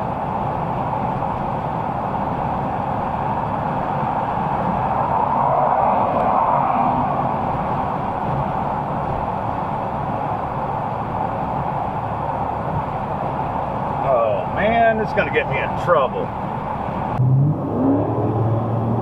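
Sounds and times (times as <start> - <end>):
road and wind noise in car: 0.0 - 19.0.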